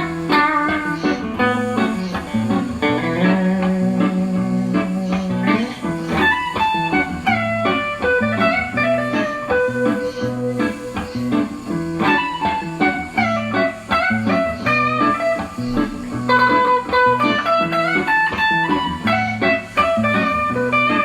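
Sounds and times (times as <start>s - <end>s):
instrumental guitar music: 0.0s - 21.0s.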